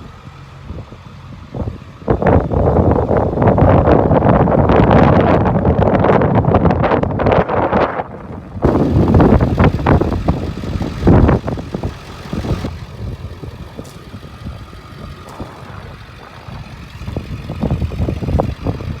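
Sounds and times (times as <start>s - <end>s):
diesel engine idling: 0.0s - 6.8s, 8.1s - 19.0s
wind buffeting microphone: 0.6s - 19.0s.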